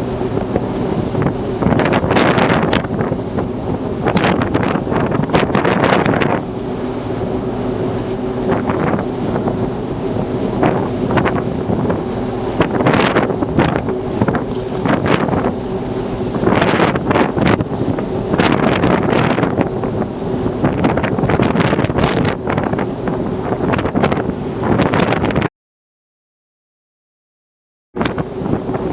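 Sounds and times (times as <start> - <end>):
steady low hum: 0.0 - 23.5
wind buffeting microphone: 0.0 - 25.5, 28.0 - 28.9.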